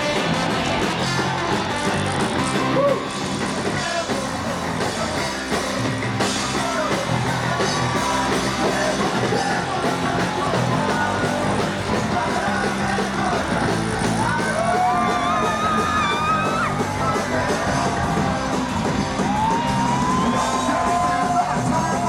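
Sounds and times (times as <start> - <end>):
ska band playing live: 0.0 - 22.0
sung and shouted vocals: 2.6 - 22.0.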